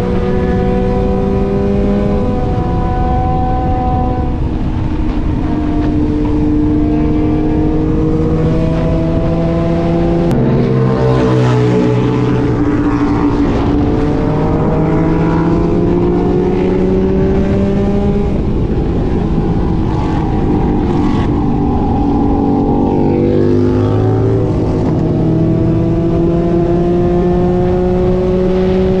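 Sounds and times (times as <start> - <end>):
motorcycle engine accelerating: 0.0 - 29.0
road and wind noise: 0.0 - 29.0.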